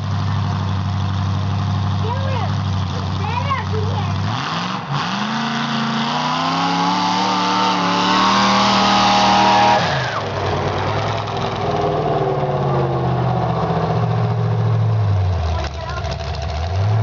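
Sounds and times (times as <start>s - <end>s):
racing engine revving: 1.6s - 17.0s.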